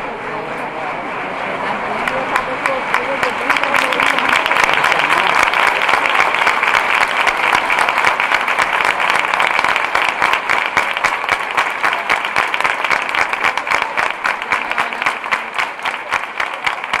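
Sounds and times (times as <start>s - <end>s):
crowd applauding: 1.2s - 17.0s.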